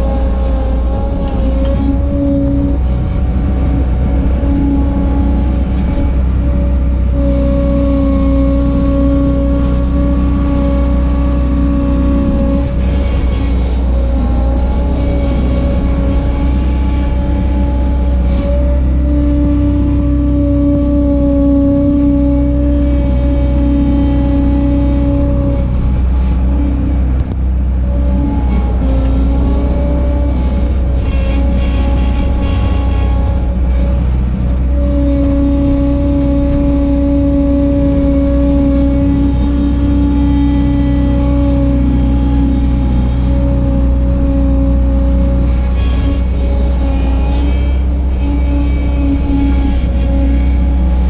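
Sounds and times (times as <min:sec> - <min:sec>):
skid steer engine droning: 0:00.0 - 0:51.0.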